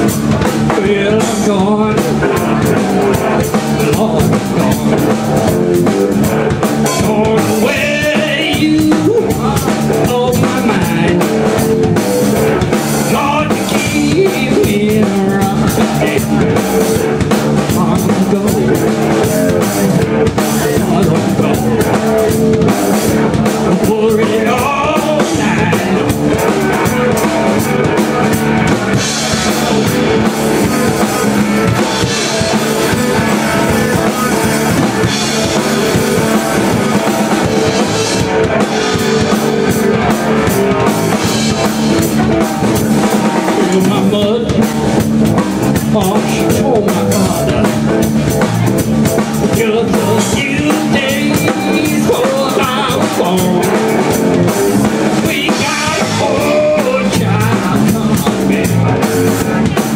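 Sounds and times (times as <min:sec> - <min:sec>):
drum kit: 0:00.0 - 0:59.9
electric guitars: 0:00.0 - 0:59.9
rock band playing live: 0:00.0 - 0:59.9.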